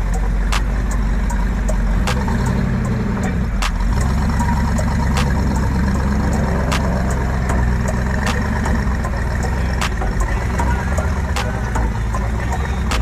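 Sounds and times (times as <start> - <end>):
car engine idling: 0.0 - 13.0
sharp ticking: 0.0 - 13.0.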